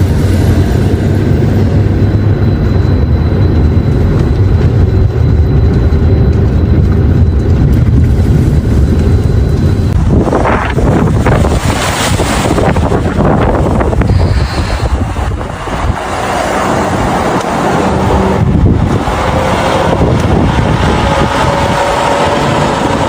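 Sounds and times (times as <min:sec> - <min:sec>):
low rumbling noise: 0:00.0 - 0:23.0.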